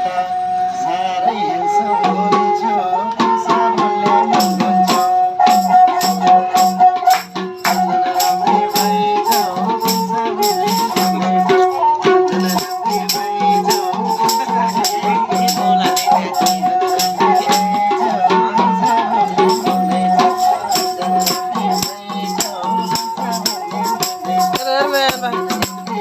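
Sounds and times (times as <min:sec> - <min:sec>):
bowed sarangi melody: 0:00.0 - 0:26.0
rattling percussion beat: 0:03.8 - 0:26.0.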